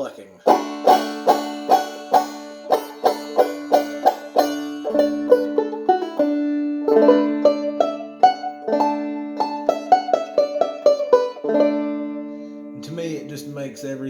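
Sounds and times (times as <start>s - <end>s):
banjo plucking: 0.0s - 14.0s.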